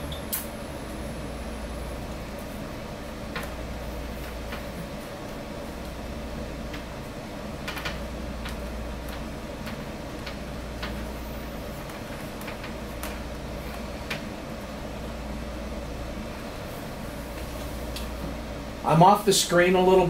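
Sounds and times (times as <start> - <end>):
low hum: 0.0 - 19.1.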